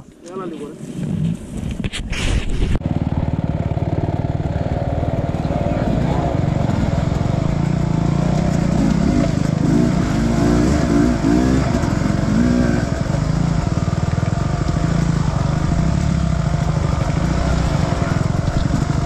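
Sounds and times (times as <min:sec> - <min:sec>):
dirt bike engine revving: 0:02.8 - 0:19.0.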